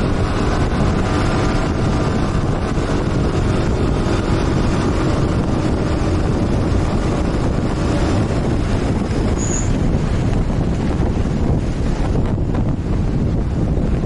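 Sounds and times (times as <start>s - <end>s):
motorcycle engine rumble: 0.0s - 14.0s
wind rushing on microphone: 0.0s - 14.0s.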